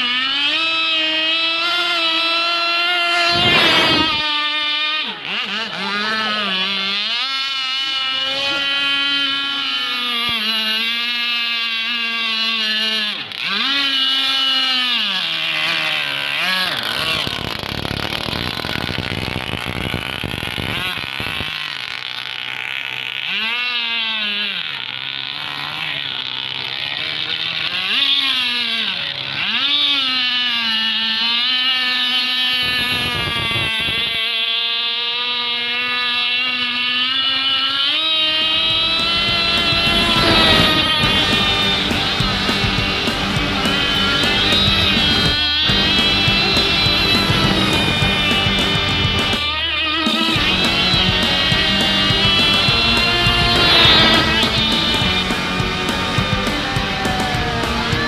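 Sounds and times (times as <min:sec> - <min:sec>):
two-stroke boat engine revving: 0:00.0 - 0:58.0.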